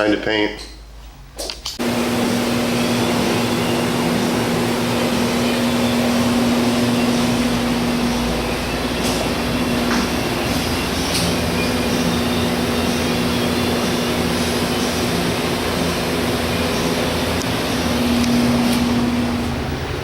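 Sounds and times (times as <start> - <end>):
motor humming: 1.8 - 20.0.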